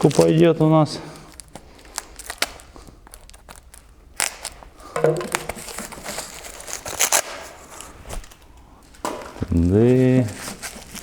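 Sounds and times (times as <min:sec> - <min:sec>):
packaging tearing and crinkling: 0:00.0 - 0:04.7, 0:05.3 - 0:08.4, 0:09.6 - 0:11.0.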